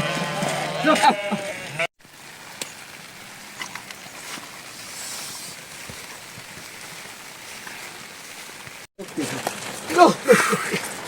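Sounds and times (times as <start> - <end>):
outdoor hiss: 2.0 - 11.0.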